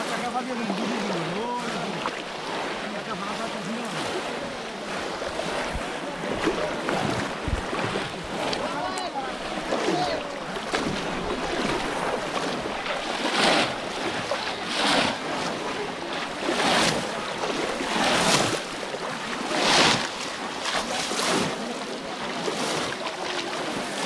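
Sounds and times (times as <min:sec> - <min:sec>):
pond water splashing: 0:00.0 - 0:24.0.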